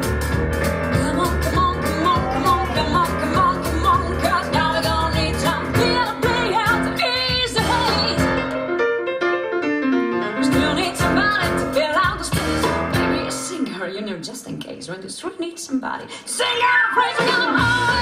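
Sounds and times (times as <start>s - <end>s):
boogie-woogie swing song: 0.0s - 14.4s, 16.3s - 18.0s
woman singing: 0.9s - 8.5s, 10.4s - 18.0s.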